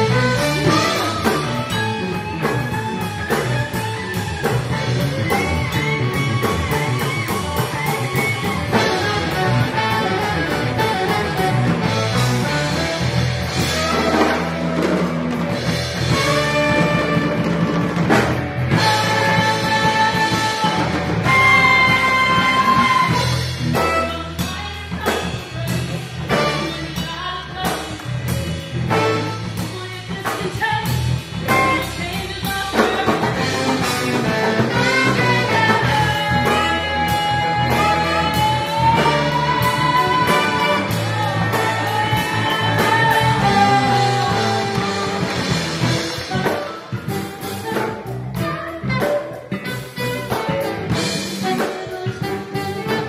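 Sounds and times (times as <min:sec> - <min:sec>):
saxophones: 0:00.0 - 0:27.1, 0:28.9 - 0:30.0, 0:31.4 - 0:53.0
bass guitar: 0:00.0 - 0:53.0
drum kit: 0:00.0 - 0:53.0
electric guitars: 0:00.0 - 0:53.0.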